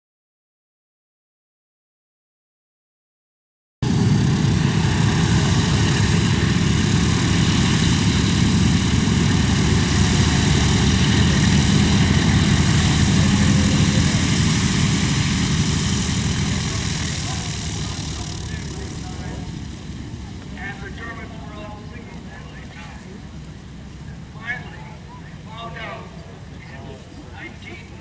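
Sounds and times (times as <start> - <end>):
aircraft engines droning: 3.8 - 28.0.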